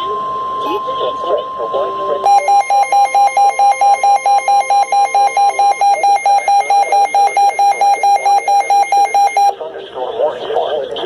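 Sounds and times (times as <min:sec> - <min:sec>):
electronic alert warble: 0:00.0 - 0:09.5
steady high tone: 0:00.0 - 0:09.5.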